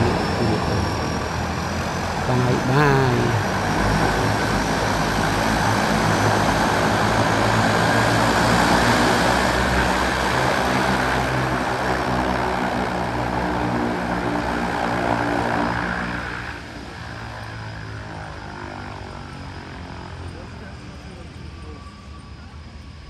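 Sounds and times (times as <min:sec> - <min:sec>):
propeller engine running: 0:00.0 - 0:23.0.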